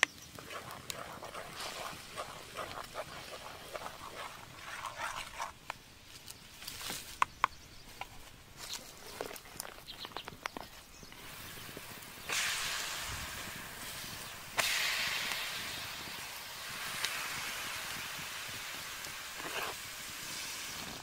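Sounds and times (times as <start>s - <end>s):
sauce bubbling and popping: 0.0s - 5.8s, 9.2s - 21.0s.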